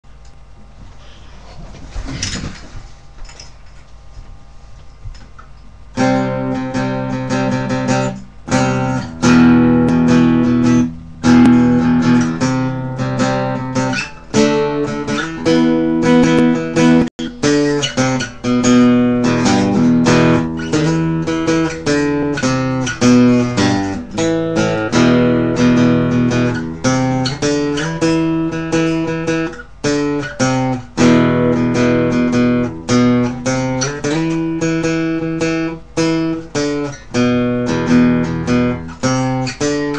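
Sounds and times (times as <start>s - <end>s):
guitar playing: 5.9s - 39.9s.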